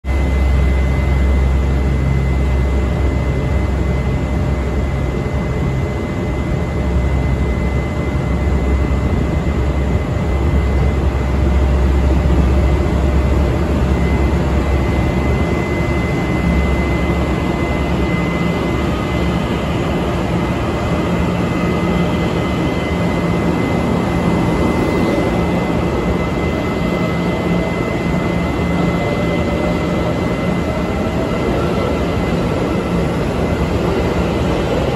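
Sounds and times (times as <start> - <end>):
heavy low rumble: 0.1 - 34.9.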